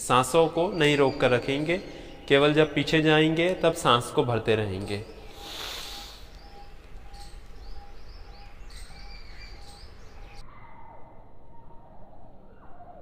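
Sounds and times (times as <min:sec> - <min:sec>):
high bird chirps: 0:00.0 - 0:10.7
low repeated bird note: 0:00.0 - 0:10.9
soft outdoor background: 0:00.0 - 0:13.0.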